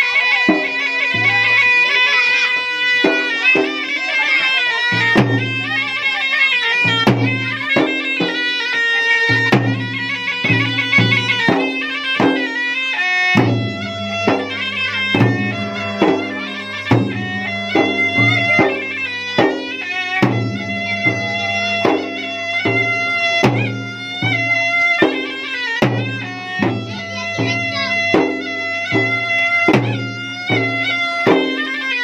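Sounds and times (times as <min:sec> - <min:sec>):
hand and stick drum strokes: 0:00.0 - 0:32.0
shrill reed pipe melody: 0:00.0 - 0:32.0.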